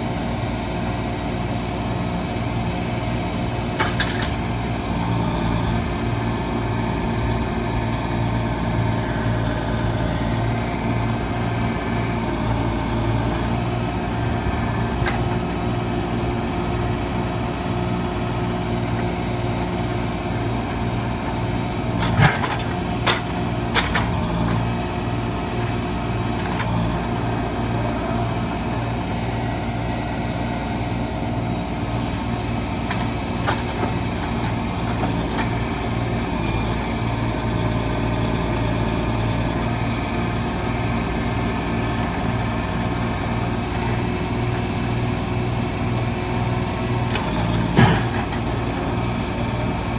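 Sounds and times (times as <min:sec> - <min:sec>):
machinery engine running: 0:00.0 - 0:49.9.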